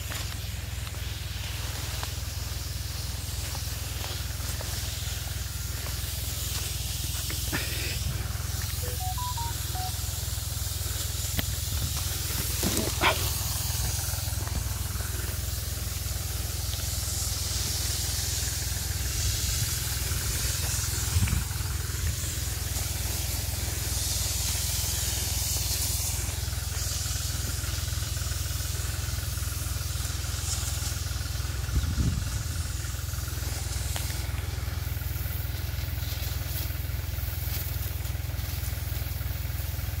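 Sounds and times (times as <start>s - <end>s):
spray gun hissing: 0.0s - 31.7s, 32.4s - 40.0s
tractor engine running: 0.0s - 40.0s.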